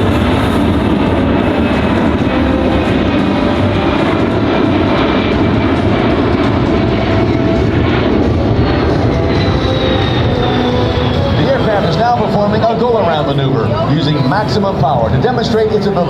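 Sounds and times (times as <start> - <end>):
jet engines in flight: 0.0 - 16.0.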